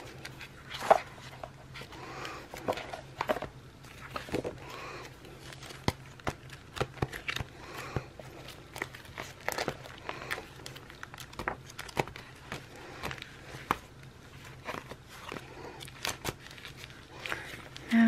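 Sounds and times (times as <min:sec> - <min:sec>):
low steady hum: 0:00.0 - 0:18.0
paper rustling: 0:00.0 - 0:18.0.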